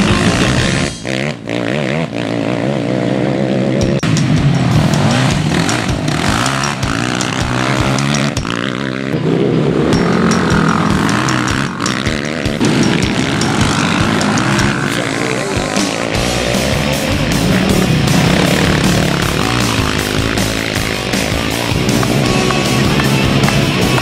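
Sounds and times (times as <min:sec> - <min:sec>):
quad engines revving: 0:00.0 - 0:24.0.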